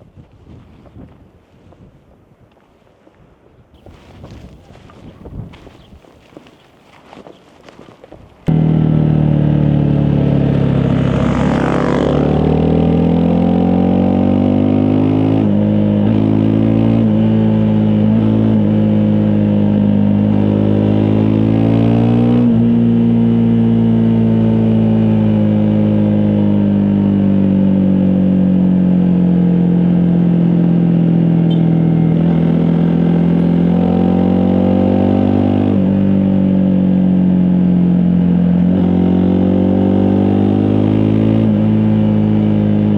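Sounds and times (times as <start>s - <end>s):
motorcycle engine running: 8.5s - 42.9s.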